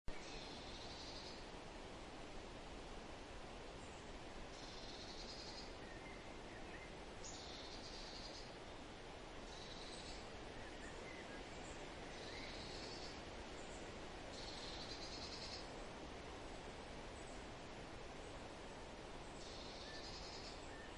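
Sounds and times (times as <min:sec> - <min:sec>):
faint steady hiss: 0:00.1 - 0:20.9.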